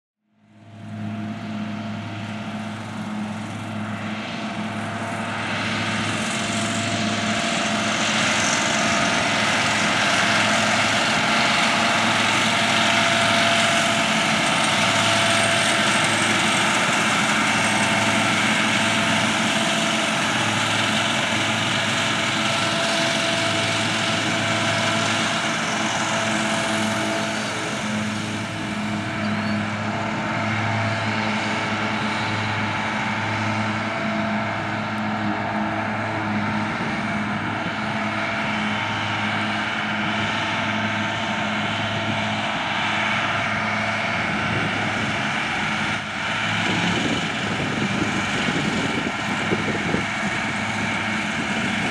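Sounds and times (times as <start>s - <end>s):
fertilizer spreader engine drone: 0.3s - 51.9s.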